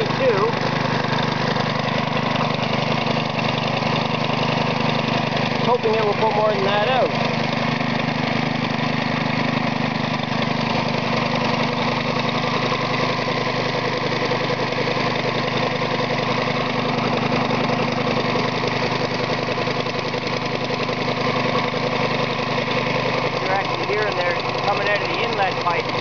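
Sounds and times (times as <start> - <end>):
air compressor engine running: 0.0 - 26.0.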